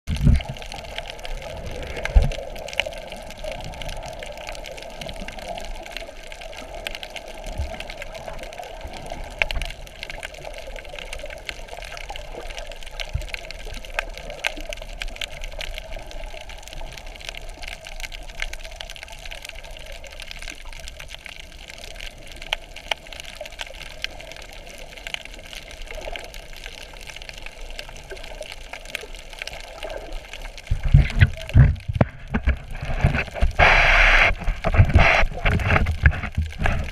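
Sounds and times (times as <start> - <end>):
faint crackling clicks: 0.1 - 36.9
muffled underwater hiss: 0.1 - 36.9.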